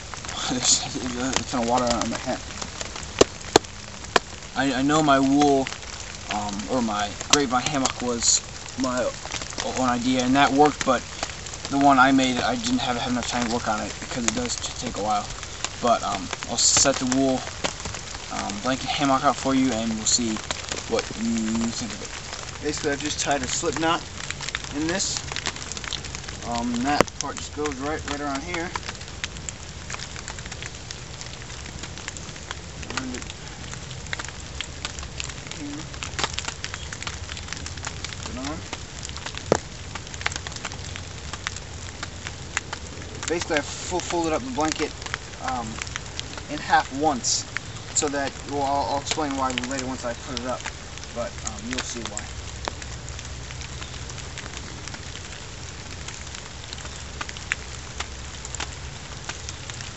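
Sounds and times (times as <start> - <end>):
low woodland rumble: 0.0 - 59.9
water drops pattering: 0.0 - 59.9.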